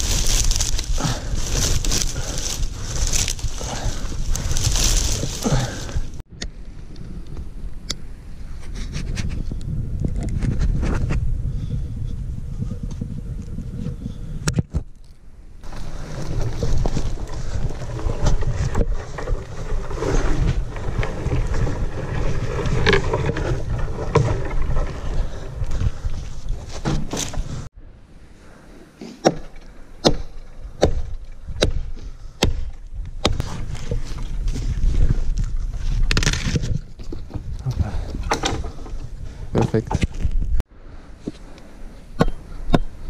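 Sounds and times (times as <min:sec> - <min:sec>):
wind buffeting microphone: 0:00.0 - 0:14.8, 0:15.6 - 0:27.7, 0:30.6 - 0:40.7.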